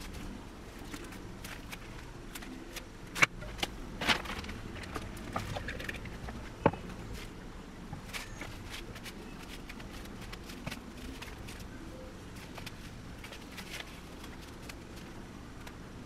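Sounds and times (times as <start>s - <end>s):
paper and stems rustling: 0.0s - 15.8s.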